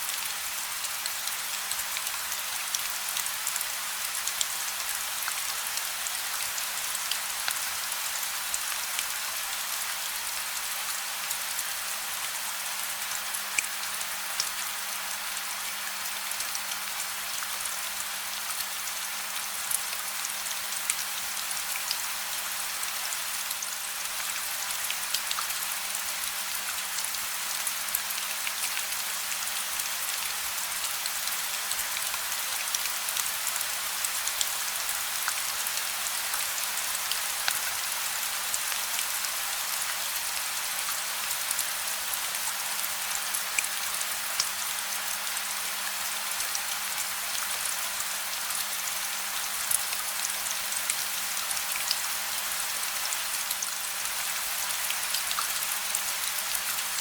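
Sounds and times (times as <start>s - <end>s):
gentle rain: 0.0s - 57.0s.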